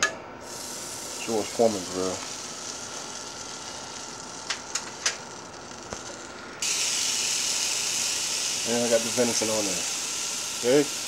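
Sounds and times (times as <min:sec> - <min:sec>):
meat sizzling on a grill: 0:00.4 - 0:11.0.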